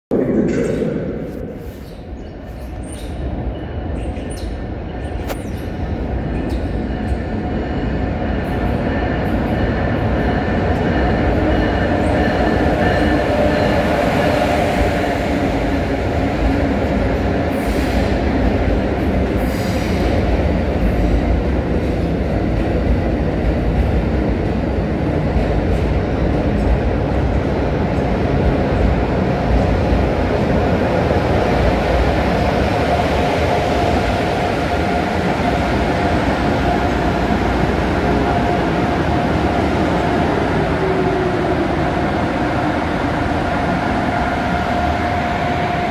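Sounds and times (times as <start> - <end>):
train wheels rumbling on rail: 0.2 - 45.9.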